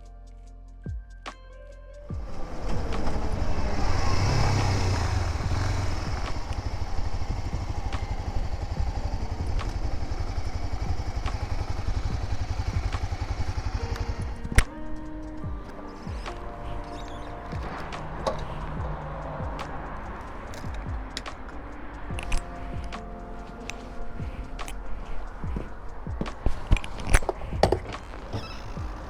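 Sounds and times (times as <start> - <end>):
motorcycle engine running: 2.1 - 29.0.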